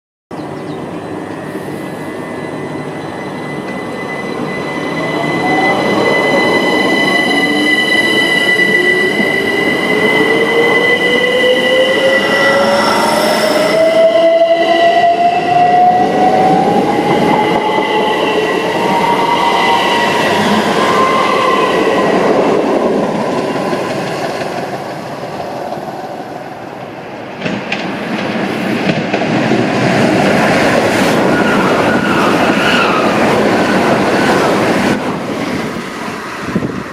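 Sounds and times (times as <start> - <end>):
approaching train: 0.4 - 36.9
train wheels rumbling on rails: 0.4 - 36.9.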